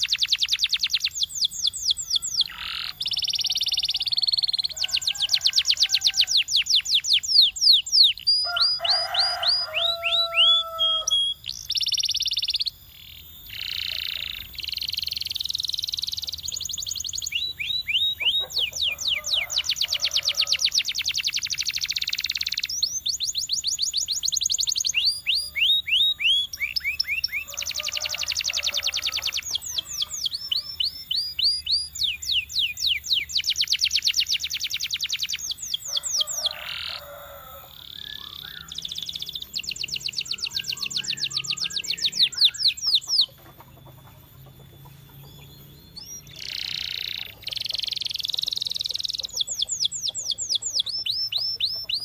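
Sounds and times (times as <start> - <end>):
canary singing trills: 0.0 - 52.0.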